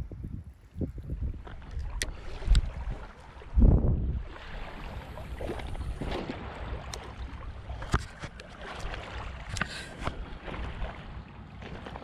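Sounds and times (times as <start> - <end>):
wind rumbling on microphone: 0.0 - 12.0
waves lapping on shingle: 0.5 - 12.0.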